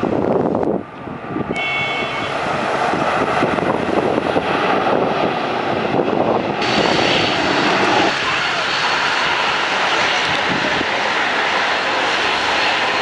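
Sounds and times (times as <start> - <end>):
turboprop engines running loudly: 0.0 - 13.0
wind on microphone: 0.0 - 13.0.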